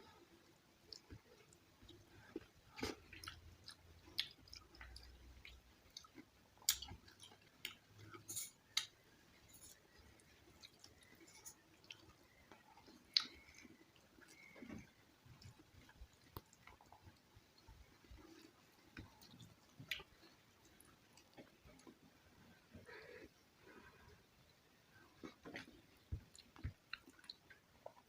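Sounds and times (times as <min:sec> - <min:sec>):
person chewing food: 0:00.1 - 0:28.0.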